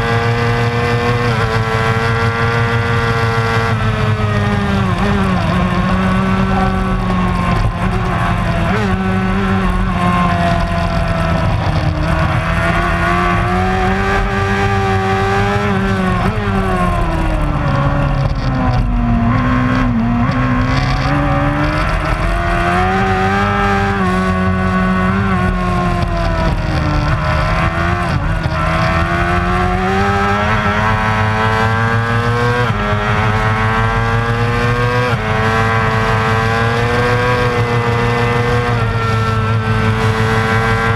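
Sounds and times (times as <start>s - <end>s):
racing motorcycle engine revving: 0.0s - 40.9s.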